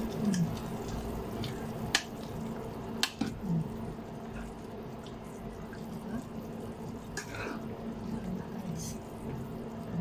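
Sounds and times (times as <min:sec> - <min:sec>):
cooker low hum: 0:00.0 - 0:10.0
soup bubbling in a pot: 0:00.0 - 0:10.0.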